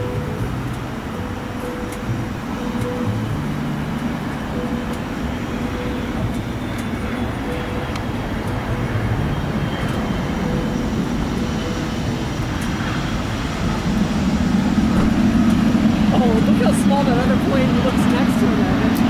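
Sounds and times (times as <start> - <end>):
faint high whine: 0.0 - 19.0
jet engines rumbling: 0.0 - 19.0.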